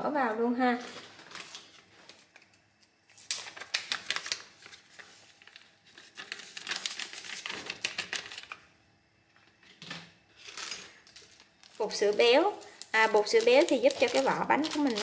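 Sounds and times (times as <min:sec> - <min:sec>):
plastic bag crinkling: 0:00.8 - 0:08.7, 0:10.4 - 0:15.0.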